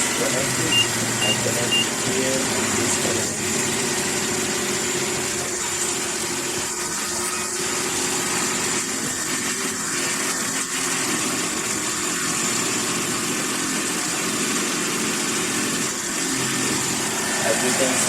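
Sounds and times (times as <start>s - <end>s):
high-pitched whine: 0.0s - 12.9s, 15.8s - 18.0s
car engine idling: 0.0s - 18.0s.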